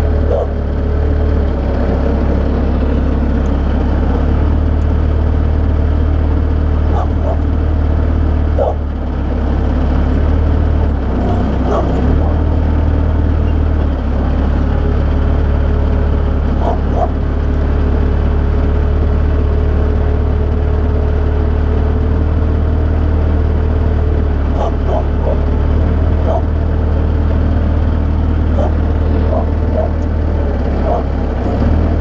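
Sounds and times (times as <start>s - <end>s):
skid steer engine droning: 0.0s - 32.0s.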